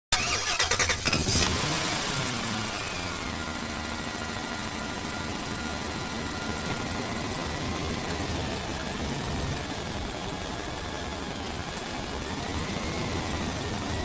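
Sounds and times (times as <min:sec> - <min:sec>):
low engine hum: 0:00.2 - 0:14.0.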